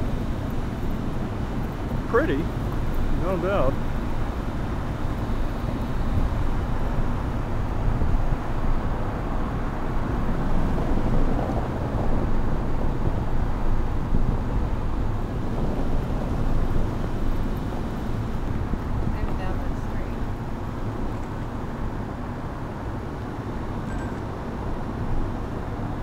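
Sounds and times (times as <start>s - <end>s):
car cabin road and engine rumble: 0.0s - 26.0s.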